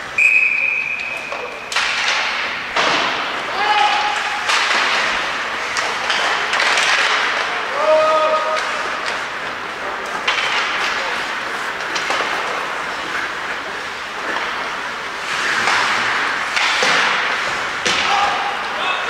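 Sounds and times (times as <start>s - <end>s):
hockey sticks and puck clicking: 0.8s - 19.0s.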